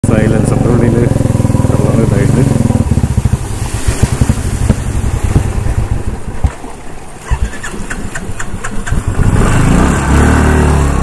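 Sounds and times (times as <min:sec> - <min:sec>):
motorcycle engine stalling and idling: 0:00.0 - 0:11.0.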